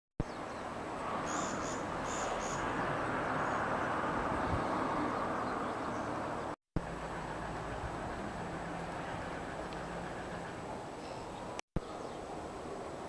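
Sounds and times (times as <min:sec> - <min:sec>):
rushing outdoor background noise: 0:00.2 - 0:13.0.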